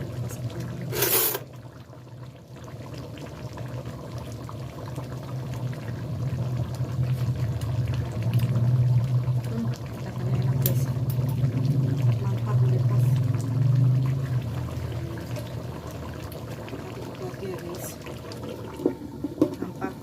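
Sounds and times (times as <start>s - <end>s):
sauce bubbling in a pan: 0.0s - 20.0s.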